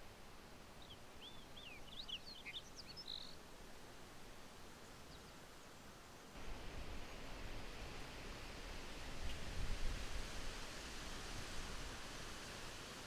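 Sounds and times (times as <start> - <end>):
faint open air hiss: 0.0 - 13.0
steady rustling hiss: 0.0 - 13.0.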